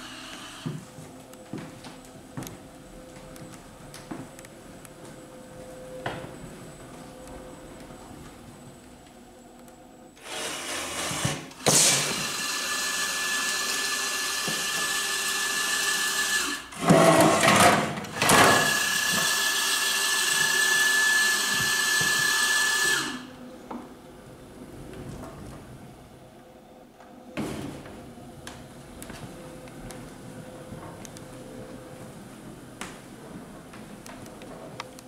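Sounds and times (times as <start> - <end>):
electric motors whining: 0.0 - 32.8.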